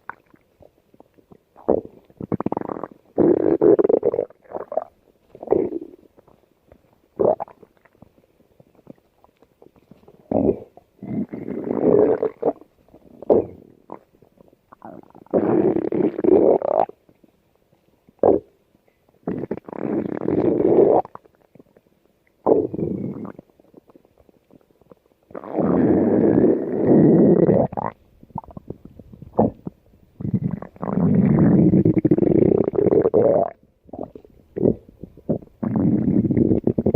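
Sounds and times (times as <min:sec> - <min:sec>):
stomach growling: 0:00.0 - 0:36.9.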